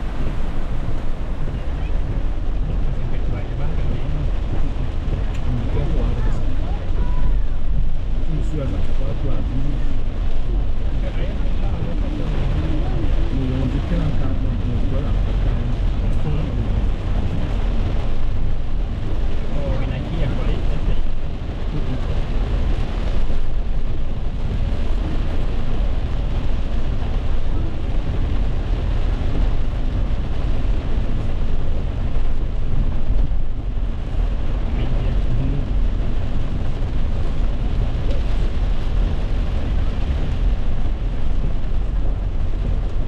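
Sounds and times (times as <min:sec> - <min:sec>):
low rumble: 0:00.0 - 0:43.0
rain on car roof: 0:00.0 - 0:43.0
tyres on wet road: 0:00.0 - 0:43.0.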